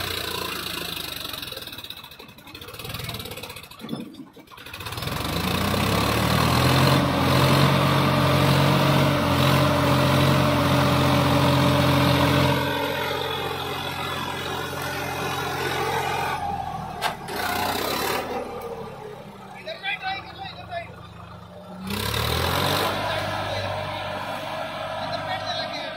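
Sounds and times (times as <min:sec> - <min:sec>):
tractor diesel engine revving: 0:00.0 - 0:25.9.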